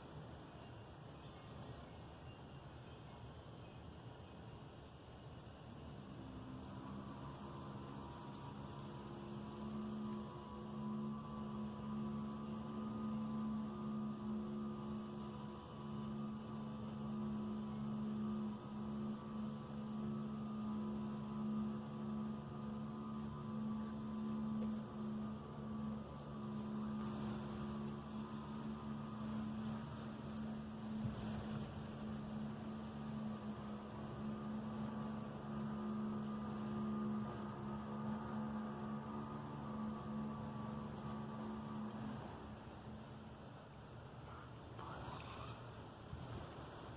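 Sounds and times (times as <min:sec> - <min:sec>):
low droning hum: 0:00.0 - 0:46.9.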